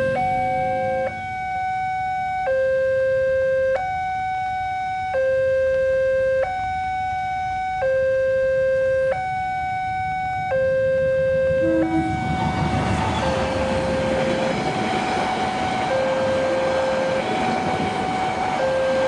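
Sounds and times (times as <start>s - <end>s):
two-tone level crossing alarm: 0.0s - 19.0s.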